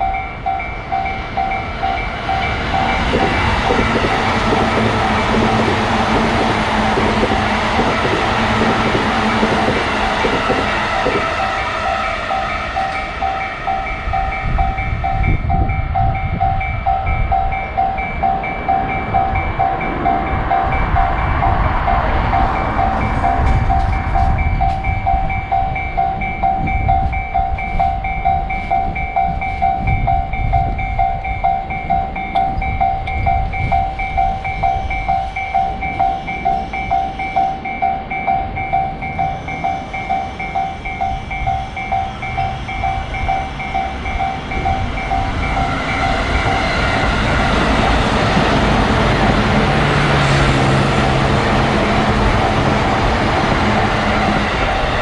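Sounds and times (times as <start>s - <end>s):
crossing bell electronic ding: 0.0s - 55.0s
train rumbling: 0.0s - 55.0s.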